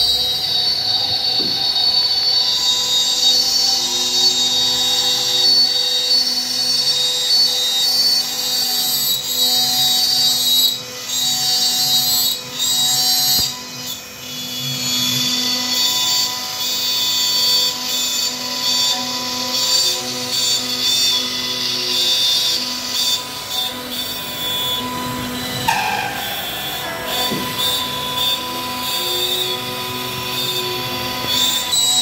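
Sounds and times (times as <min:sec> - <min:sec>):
router spindle whining cutting wood: 0:00.0 - 0:32.0.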